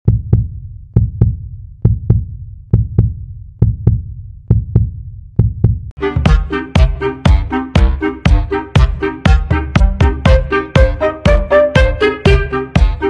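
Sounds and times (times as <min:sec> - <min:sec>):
heartbeat double thumps: 0:00.0 - 0:13.0
music with steady beat: 0:00.1 - 0:13.0.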